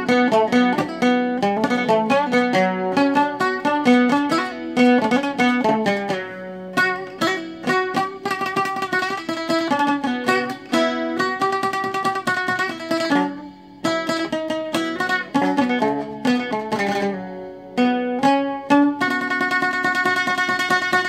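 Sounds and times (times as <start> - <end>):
oud melody plucked with plectrum: 0.0 - 21.0.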